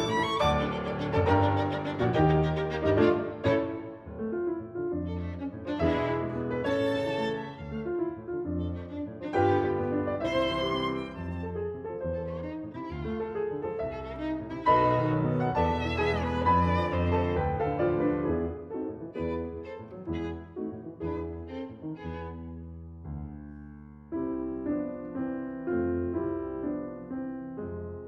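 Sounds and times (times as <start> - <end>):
bowed string music: 0.0 - 23.4.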